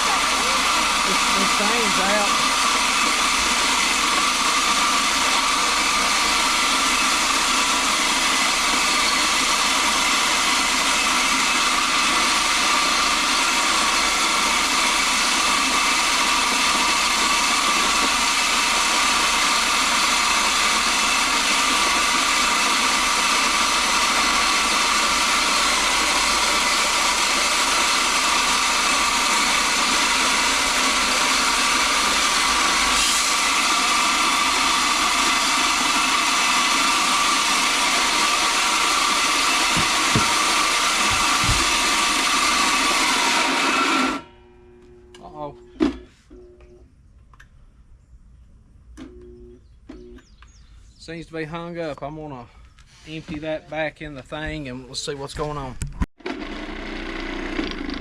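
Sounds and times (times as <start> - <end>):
electric feed grinder whining: 0.0 - 46.0, 56.2 - 58.0.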